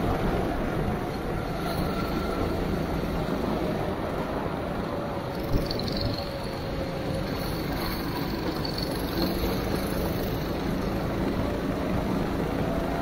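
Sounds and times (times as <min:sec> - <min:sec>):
go-kart engine running: 0:00.0 - 0:13.0
rushing wind and spray: 0:00.0 - 0:13.0.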